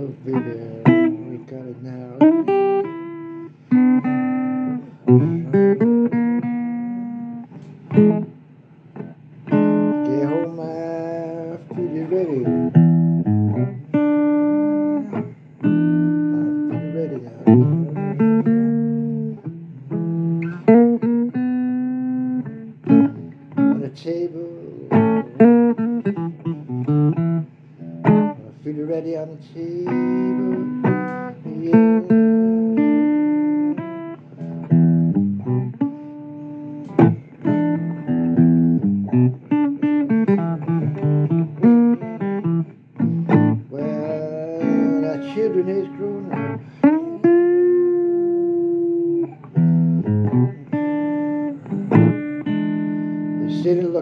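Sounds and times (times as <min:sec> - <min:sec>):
blues guitar playing: 0:00.0 - 0:54.0.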